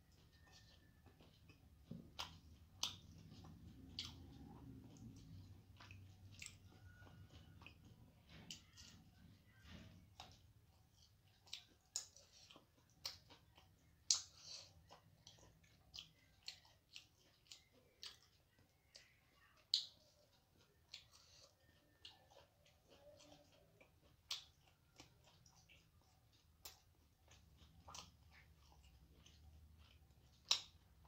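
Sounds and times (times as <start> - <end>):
person chewing crisp food: 0.0 - 31.0.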